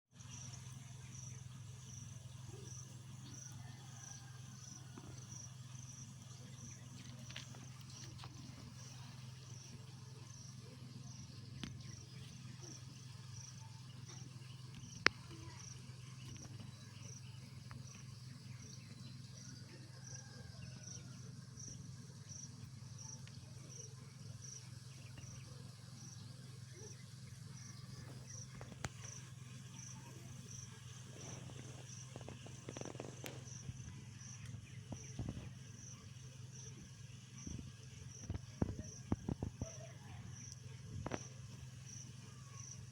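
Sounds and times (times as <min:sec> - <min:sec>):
insect chirping: 0:00.2 - 0:20.3, 0:21.6 - 0:42.9.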